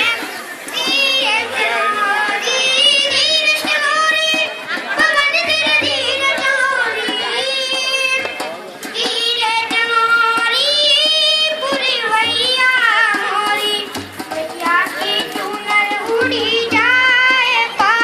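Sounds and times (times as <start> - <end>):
young people singing devotional song: 0.0 - 18.0.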